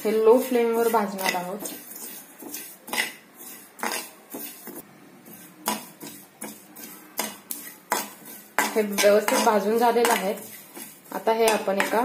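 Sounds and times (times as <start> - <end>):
metal spoon scraping steel pan: 0.0 - 12.0.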